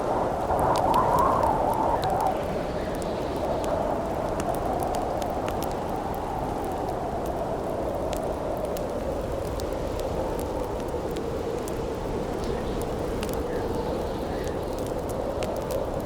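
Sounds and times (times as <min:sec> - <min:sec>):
campfire crackling: 0:00.0 - 0:16.0
howling wind: 0:00.0 - 0:16.0.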